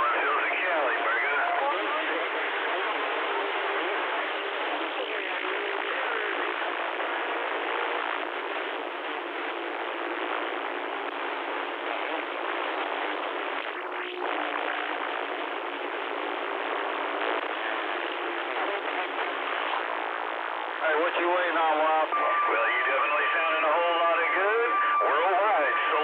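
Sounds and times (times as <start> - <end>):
faint garbled radio voices: 0.0 - 26.0
faint steady tones: 0.0 - 26.0
radio static hiss: 0.0 - 26.0.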